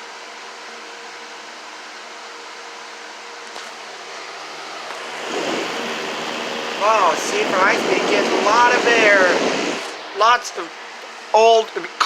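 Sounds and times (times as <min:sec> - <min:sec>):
fan air rushing: 0:01.1 - 0:12.0.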